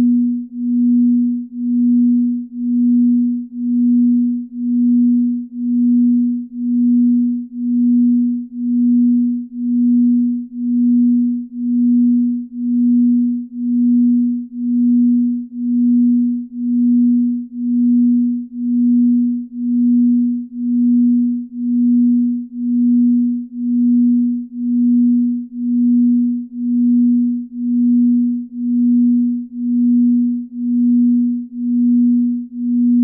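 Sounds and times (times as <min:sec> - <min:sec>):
low pulsing pure tone: 0:00.0 - 0:33.0.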